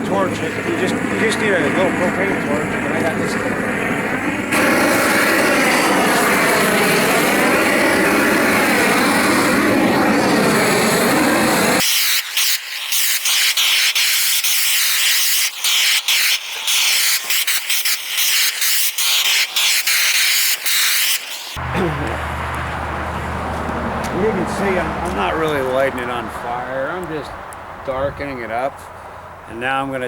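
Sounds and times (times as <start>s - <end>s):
propane torch burning: 0.0s - 27.7s.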